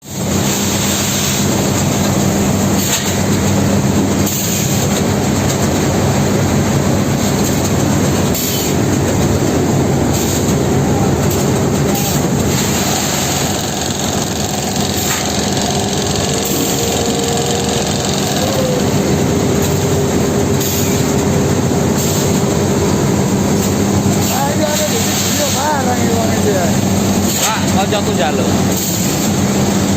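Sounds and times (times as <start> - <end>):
machine din with low hum: 0.1 - 29.9.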